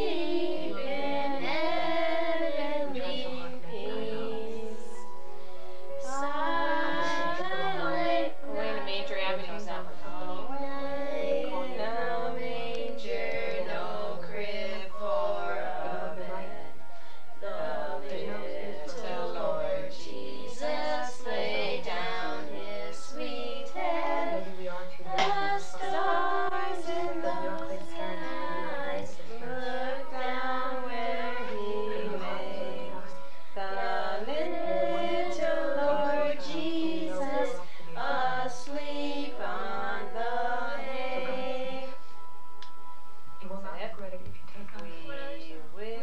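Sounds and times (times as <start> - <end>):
children singing a carol: 0.0 - 5.1, 6.0 - 16.8, 17.4 - 42.0.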